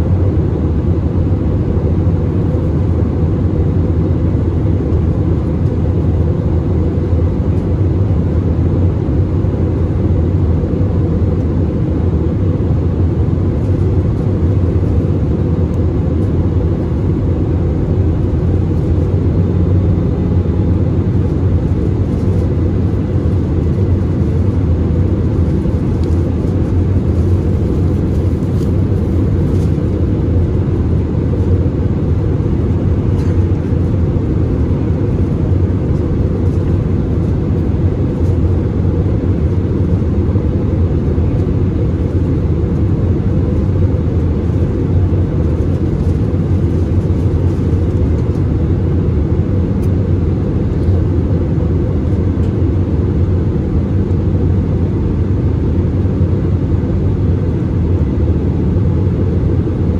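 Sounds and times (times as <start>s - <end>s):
airplane cabin low rumble: 0.0s - 59.9s.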